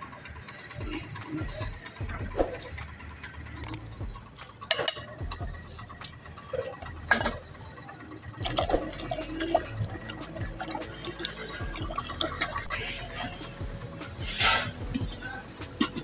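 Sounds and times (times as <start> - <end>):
liquid pouring and sloshing: 2.2 - 16.0.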